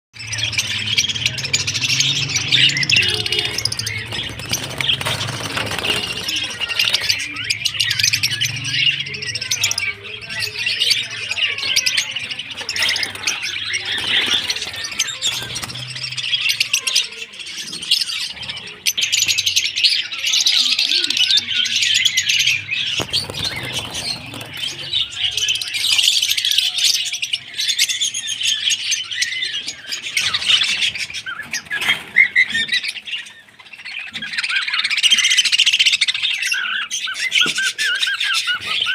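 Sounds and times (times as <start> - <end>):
birds chattering and chirping: 0.2 - 38.9.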